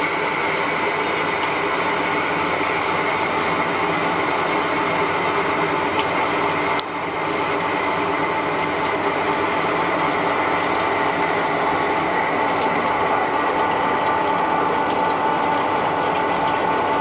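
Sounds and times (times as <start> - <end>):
lathe machining noise with whine: 0.0 - 17.0.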